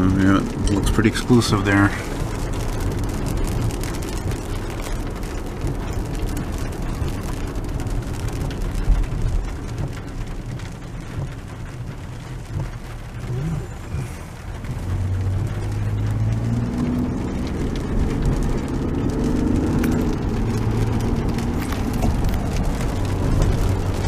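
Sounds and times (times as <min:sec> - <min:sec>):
rain on car roof and windshield: 0:00.0 - 0:24.0
road and engine noise: 0:00.0 - 0:24.0.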